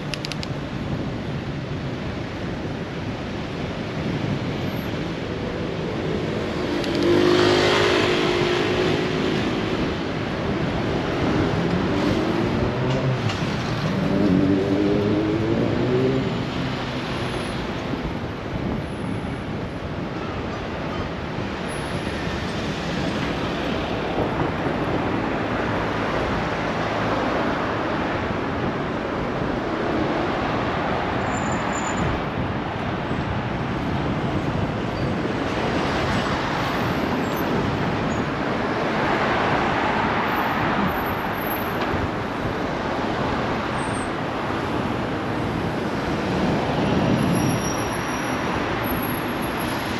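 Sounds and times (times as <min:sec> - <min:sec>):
road traffic rush: 0:00.0 - 0:49.9
vehicles passing close: 0:00.0 - 0:49.9.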